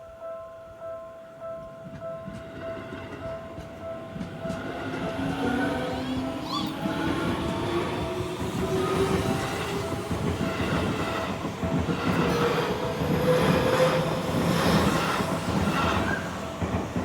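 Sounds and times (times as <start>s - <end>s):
train wheels clattering on rails: 1.6s - 17.0s.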